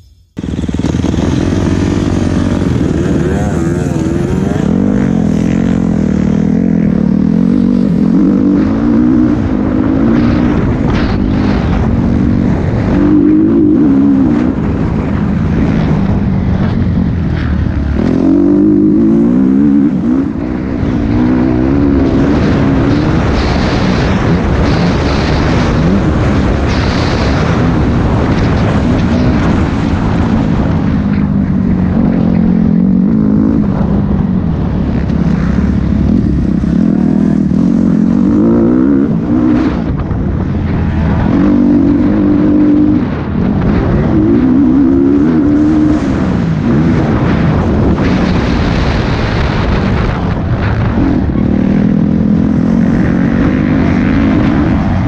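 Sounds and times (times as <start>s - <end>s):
wind noise: 0.0s - 55.0s
motocross bike engine revving: 0.1s - 55.0s.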